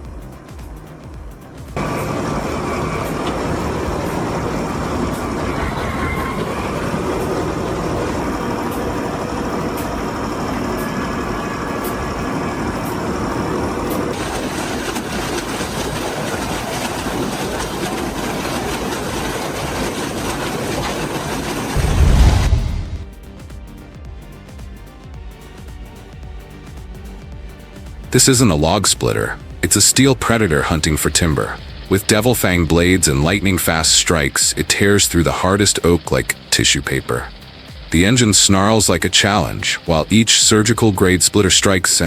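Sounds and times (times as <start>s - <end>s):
wood chipper engine running: 0.0s - 23.3s, 26.8s - 42.0s.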